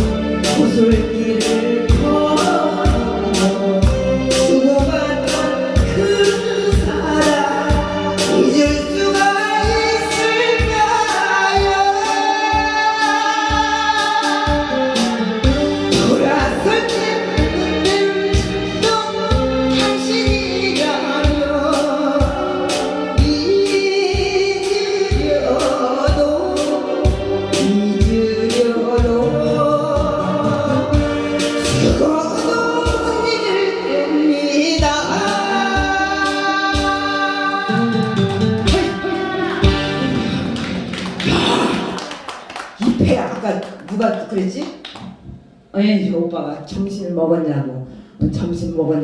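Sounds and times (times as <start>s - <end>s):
backing track with drum beat: 0.0s - 33.3s, 34.8s - 43.9s
woman singing: 0.4s - 40.7s.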